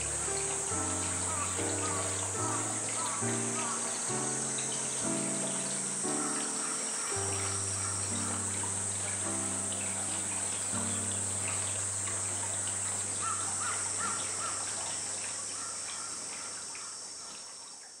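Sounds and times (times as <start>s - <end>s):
bird chirps: 0.0s - 14.8s
soft background music: 0.0s - 15.6s
cicadas droning: 0.0s - 18.0s.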